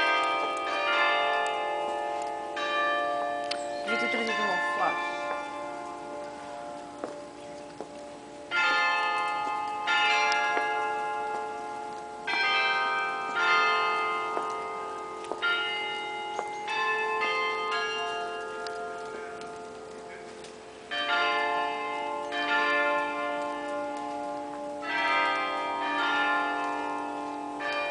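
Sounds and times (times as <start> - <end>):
church bells pealing: 0.0 - 27.9.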